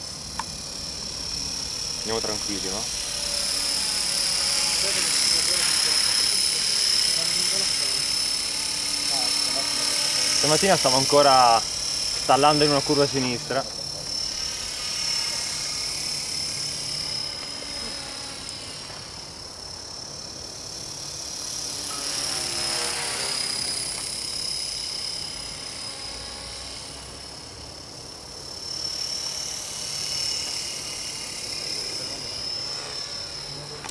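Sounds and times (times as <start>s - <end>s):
rc helicopter whine: 0.0s - 33.9s.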